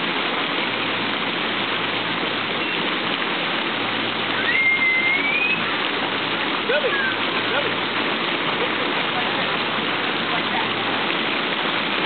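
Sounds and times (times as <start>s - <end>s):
water spraying into a pool: 0.0s - 12.0s.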